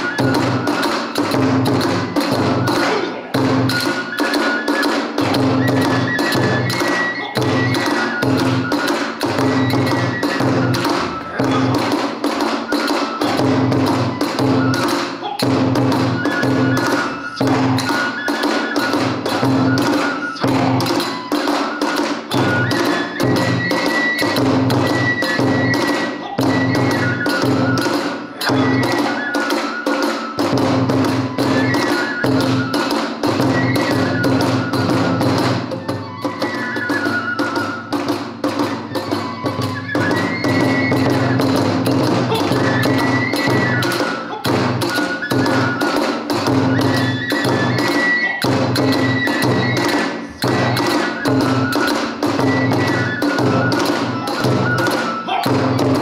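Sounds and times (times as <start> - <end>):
bamboo flute melody: 0.0 - 56.0.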